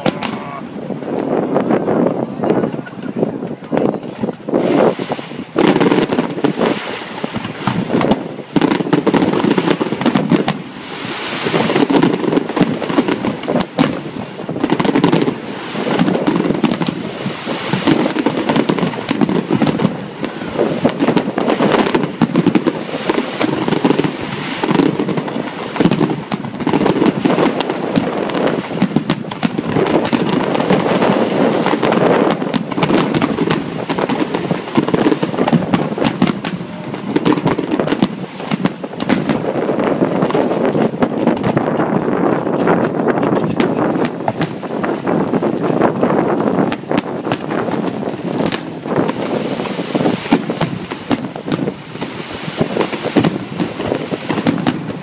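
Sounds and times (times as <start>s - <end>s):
fireworks crackling: 0.0s - 55.0s
fireworks shells bursting: 0.0s - 55.0s.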